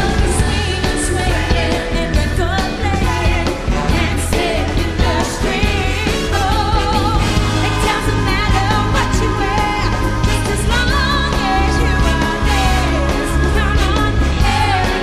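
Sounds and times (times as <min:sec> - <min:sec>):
rock band with drums and guitars: 0:00.0 - 0:15.0
women singing pop vocals: 0:00.0 - 0:15.0.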